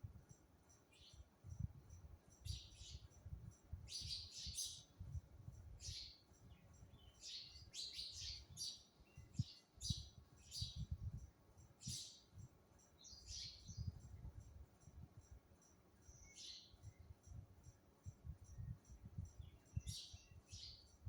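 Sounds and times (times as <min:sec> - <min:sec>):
sparrows chirping: 0:00.6 - 0:14.5, 0:15.2 - 0:17.3, 0:18.6 - 0:21.0.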